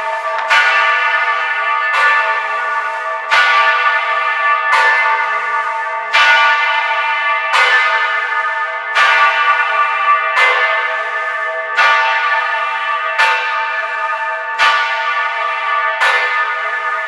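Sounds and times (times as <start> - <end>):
large church bell ringing: 0.0 - 17.0.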